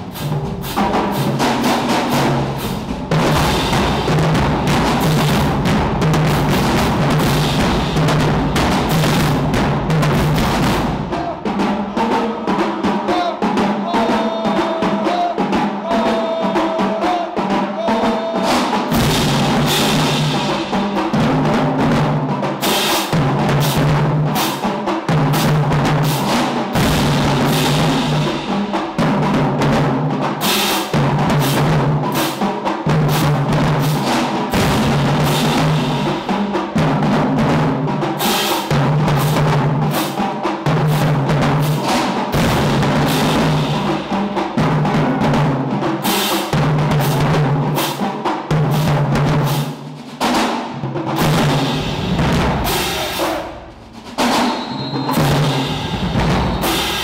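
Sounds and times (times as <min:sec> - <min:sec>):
marching drumline cadence: 0:00.0 - 0:57.0.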